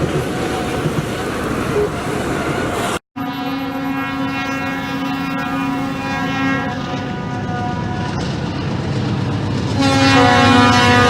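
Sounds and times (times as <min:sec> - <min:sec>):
train wheels rumbling on rails: 0:00.0 - 0:03.0, 0:04.6 - 0:11.0.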